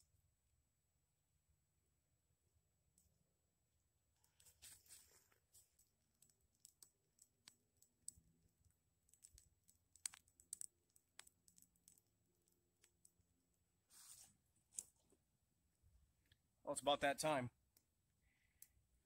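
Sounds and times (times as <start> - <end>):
small fire crackling: 2.8 - 19.0.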